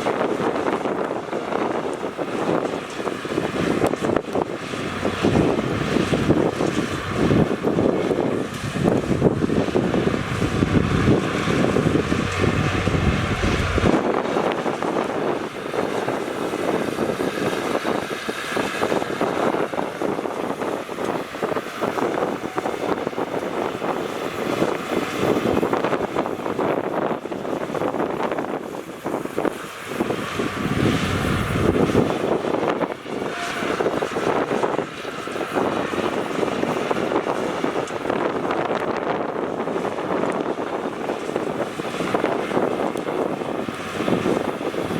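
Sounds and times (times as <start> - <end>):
crackling wash: 0.0 - 44.9
diesel construction machinery running: 0.0 - 44.9
wind on microphone: 0.0 - 44.9.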